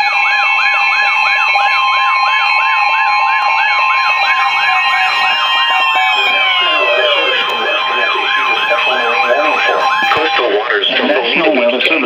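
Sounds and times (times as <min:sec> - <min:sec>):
warbling alarm chirp: 0:00.0 - 0:10.7
steady alarm tones: 0:00.0 - 0:10.8.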